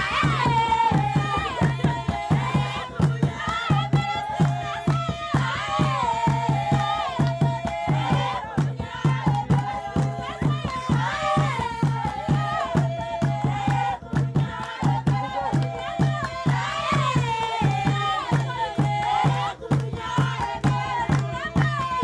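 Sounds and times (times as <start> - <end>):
quick drum beat: 0.0 - 22.0
voices singing folk music: 0.0 - 22.0.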